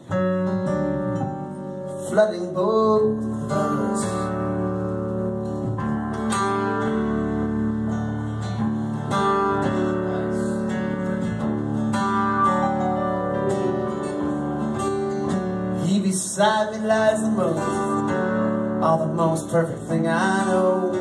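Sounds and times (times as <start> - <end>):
second guitar: 0.0 - 21.0
strummed acoustic guitar: 0.0 - 21.0
upright bass: 0.0 - 21.0.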